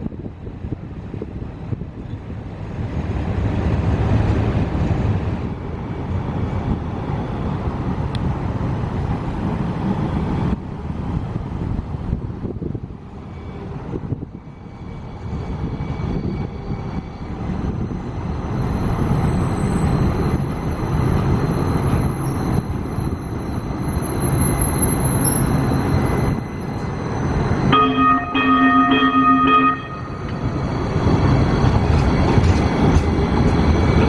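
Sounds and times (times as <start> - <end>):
wind buffeting microphone: 0.0 - 27.6
rumble of street vehicles: 0.0 - 34.0.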